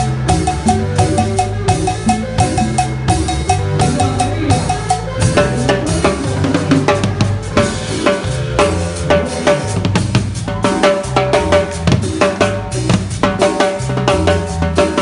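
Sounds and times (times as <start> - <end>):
bass line: 0.0 - 15.0
drum kit played with sticks: 0.0 - 15.0.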